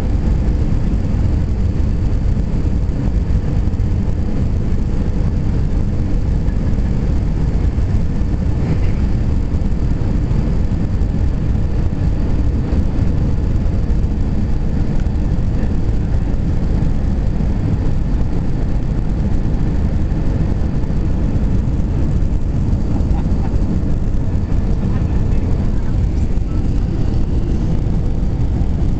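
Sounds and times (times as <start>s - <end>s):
airliner engines rumbling: 0.0s - 28.9s
faint steady hum: 0.0s - 28.9s.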